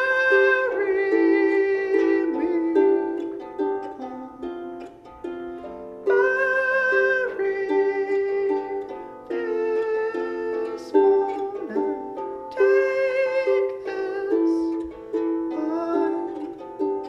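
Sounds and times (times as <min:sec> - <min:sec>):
long held melody notes: 0:00.0 - 0:17.0
plucked string accompaniment: 0:00.0 - 0:17.0.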